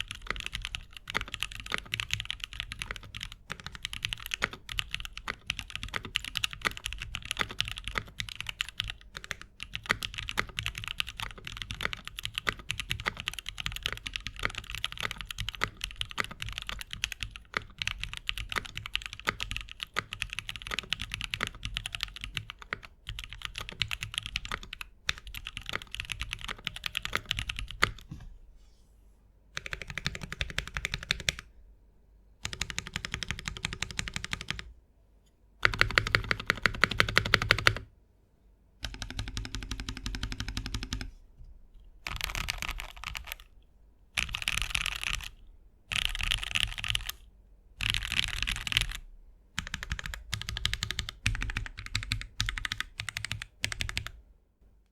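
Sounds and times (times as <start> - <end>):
fast mechanical keyboard typing: 0.0 - 28.0, 29.6 - 31.5, 32.4 - 34.7, 35.6 - 37.9, 38.8 - 41.1, 42.0 - 43.5, 44.2 - 47.2, 47.8 - 49.0, 49.6 - 54.2.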